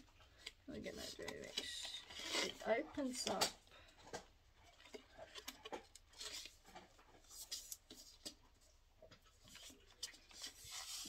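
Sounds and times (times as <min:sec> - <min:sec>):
soft clicks and rubs of packaging: 0:00.0 - 0:11.0.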